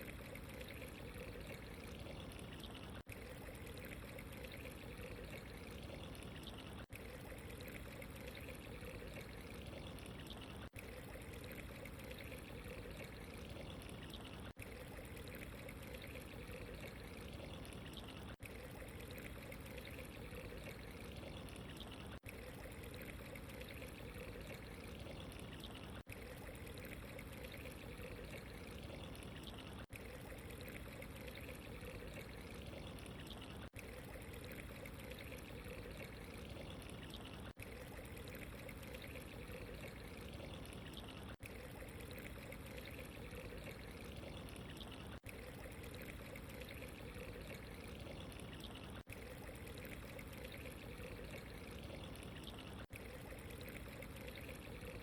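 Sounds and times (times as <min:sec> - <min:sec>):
running water trickling and pouring: 0:00.0 - 0:55.0.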